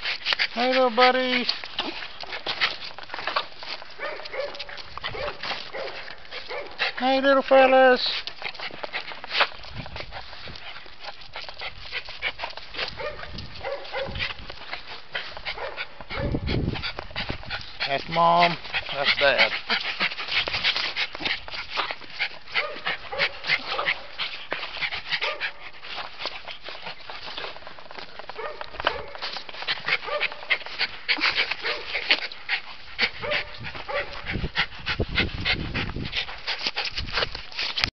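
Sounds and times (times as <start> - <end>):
crackling rustle: 0.0 - 37.9.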